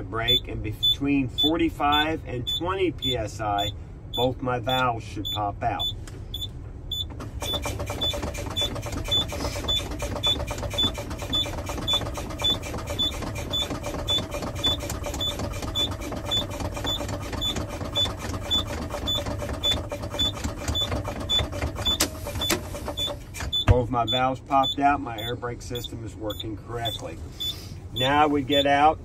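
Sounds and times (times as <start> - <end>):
warning buzzer beeping: 0.3 - 4.3, 5.2 - 28.9.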